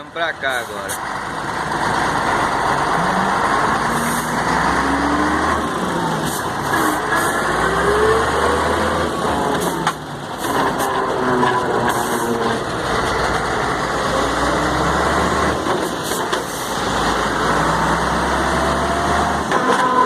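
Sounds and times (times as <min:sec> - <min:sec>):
truck drivetrain growl: 0:00.0 - 0:20.0.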